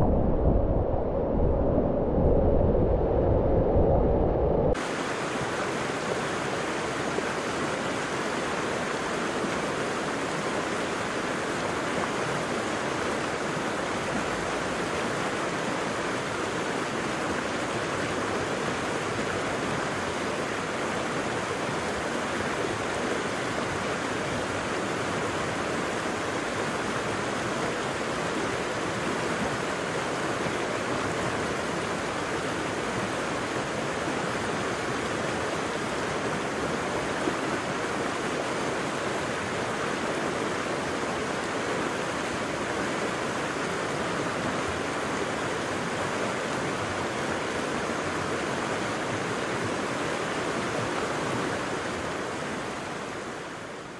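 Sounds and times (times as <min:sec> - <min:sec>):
waterfall rushing: 0:04.7 - 0:53.2.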